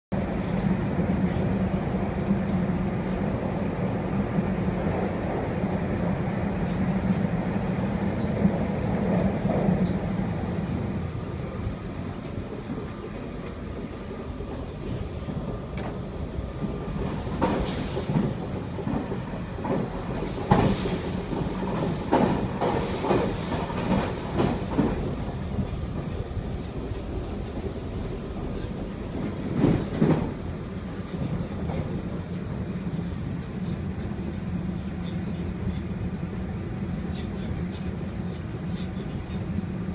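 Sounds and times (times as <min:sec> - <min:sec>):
train carriage rumble: 0:00.1 - 0:39.9.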